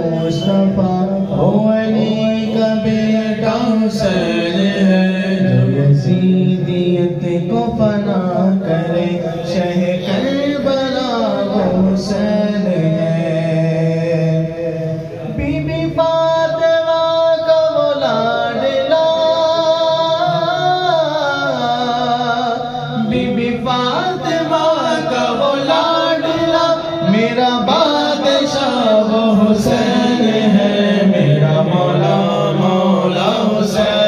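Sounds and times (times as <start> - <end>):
men singing devotional song: 0.0 - 34.0.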